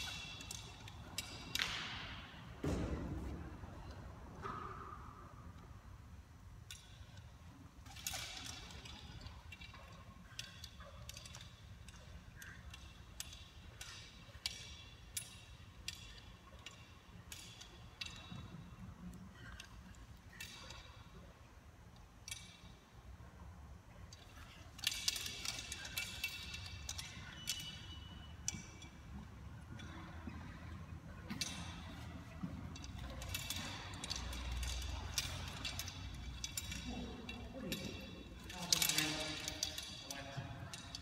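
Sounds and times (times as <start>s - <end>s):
metallic clicks of rigging hardware: 0.0s - 41.0s.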